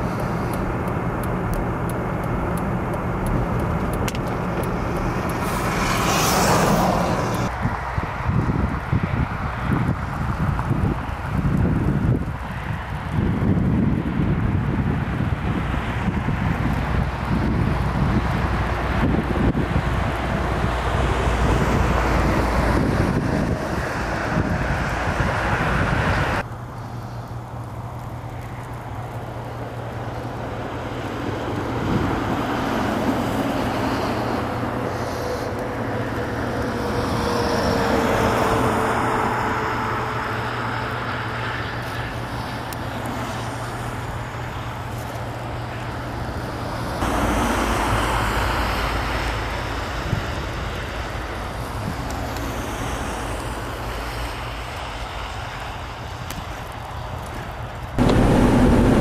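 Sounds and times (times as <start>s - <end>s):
traffic passing on highway: 0.0s - 59.0s
wind on microphone: 3.3s - 26.5s, 30.8s - 59.0s.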